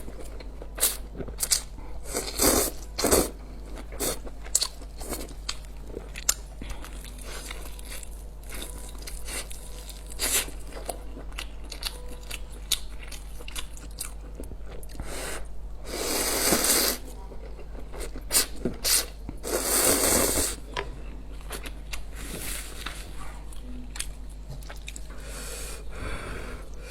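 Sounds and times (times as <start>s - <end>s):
person chewing crunchy food: 0.1s - 20.6s, 21.3s - 25.1s.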